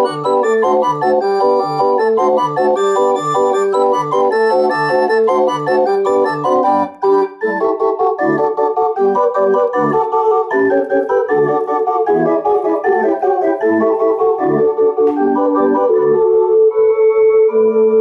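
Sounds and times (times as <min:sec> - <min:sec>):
street organ playing lively tune: 0:00.0 - 0:17.3.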